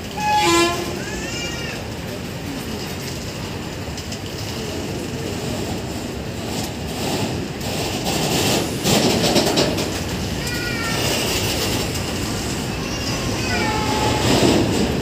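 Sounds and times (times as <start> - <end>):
freight wagons rumbling on rails: 0.0 - 15.0.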